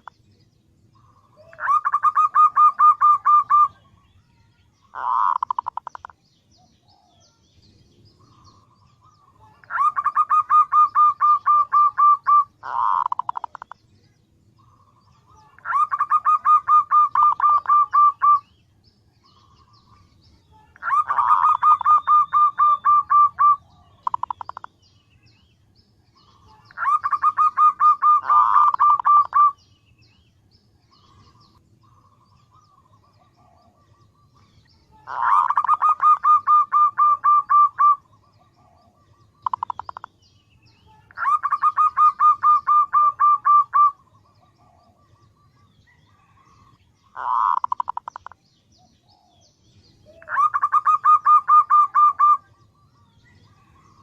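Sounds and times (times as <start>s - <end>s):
dove rattling trills: 0.8s - 4.1s, 4.8s - 6.2s, 8.1s - 13.8s, 14.6s - 25.0s, 26.1s - 48.4s, 49.0s - 54.0s.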